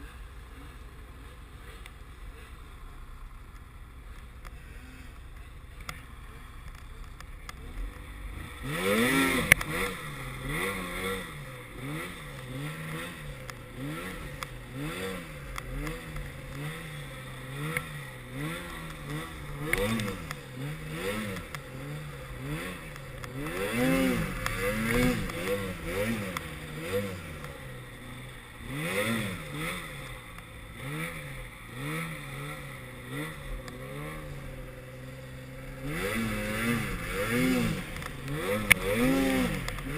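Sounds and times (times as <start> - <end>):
snowmobile engine revving: 4.0 - 39.9.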